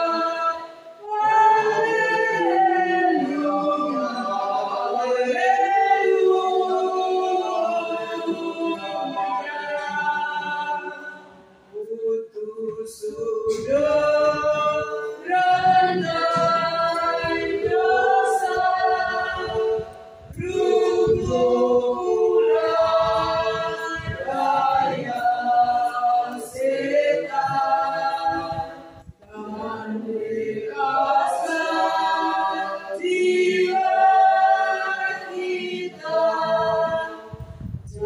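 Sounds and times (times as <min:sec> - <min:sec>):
church choir singing a hymn: 0:00.0 - 0:38.0.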